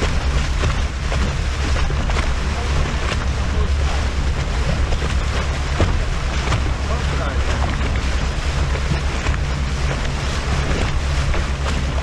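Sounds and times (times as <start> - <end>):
boat motor drone: 0.0 - 12.0
water splashing along hull: 0.0 - 12.0
wind buffeting microphone: 0.0 - 12.0.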